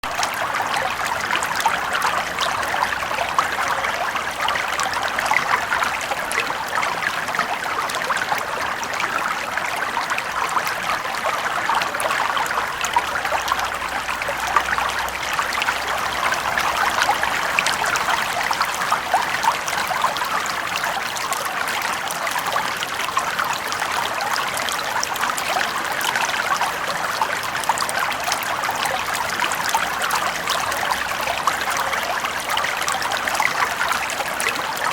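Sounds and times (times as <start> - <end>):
brook flowing over stones: 0.0 - 34.9.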